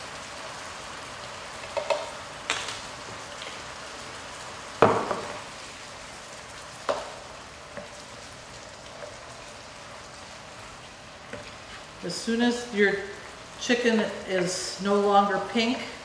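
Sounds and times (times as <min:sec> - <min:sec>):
chicken sizzling in grease: 0:00.0 - 0:16.0.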